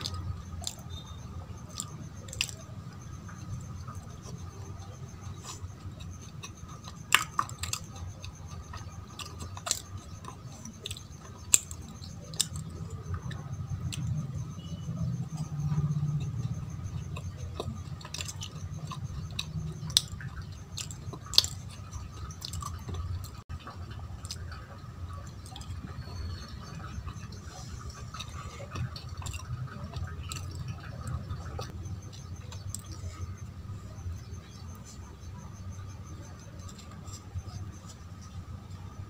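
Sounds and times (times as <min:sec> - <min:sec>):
wet chewing mouth sounds: 0:00.0 - 0:39.0.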